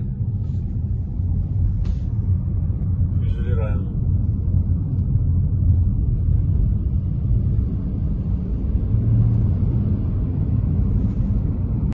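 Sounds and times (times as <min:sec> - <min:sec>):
car cabin road and engine rumble: 0:00.0 - 0:11.9.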